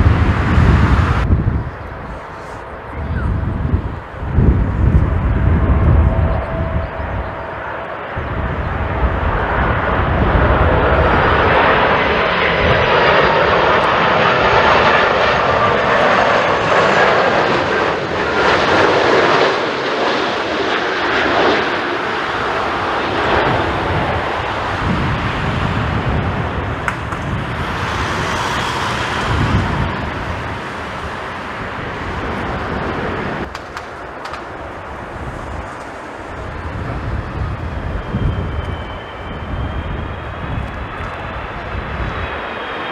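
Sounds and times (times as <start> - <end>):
jet engines roaring past: 0.0 - 42.9
wind buffeting microphone: 0.0 - 42.9.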